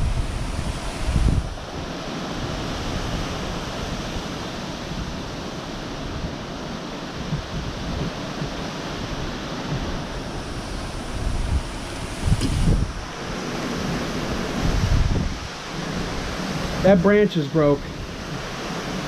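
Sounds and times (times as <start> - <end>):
wind buffeting microphone: 0.0 - 17.1, 17.8 - 19.0
heavy rain: 0.0 - 19.0.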